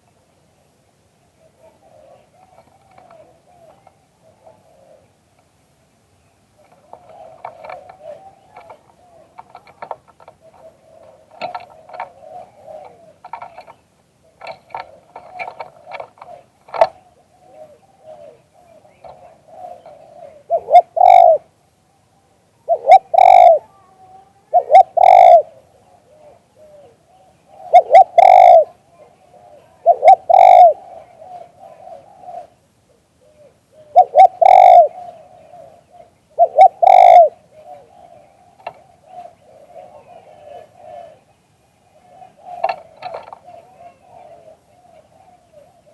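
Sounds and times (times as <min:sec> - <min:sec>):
dove cooing: 0:01.3 - 0:05.3, 0:06.5 - 0:45.9.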